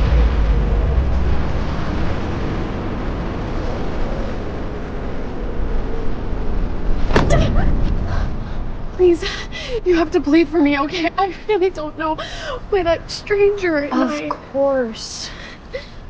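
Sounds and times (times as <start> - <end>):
steady low rumbling: 0.0 - 16.0.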